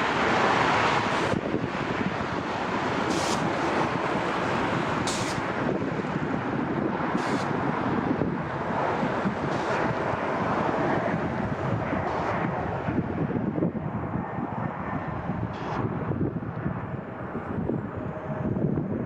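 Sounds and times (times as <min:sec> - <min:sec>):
jet engines rushing: 0:00.0 - 0:19.0
wind buffeting microphone: 0:00.0 - 0:19.0.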